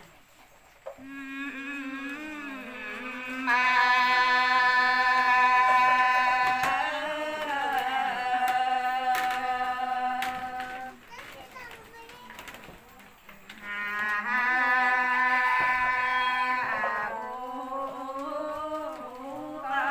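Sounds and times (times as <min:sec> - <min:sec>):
women singing unaccompanied: 0:00.9 - 0:11.1, 0:13.2 - 0:19.9.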